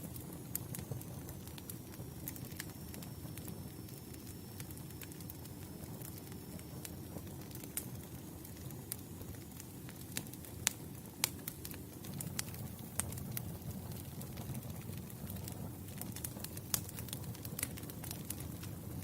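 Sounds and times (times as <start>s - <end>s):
burning wood crackling and popping: 0.0s - 19.0s
low rumble of flames: 0.0s - 19.0s.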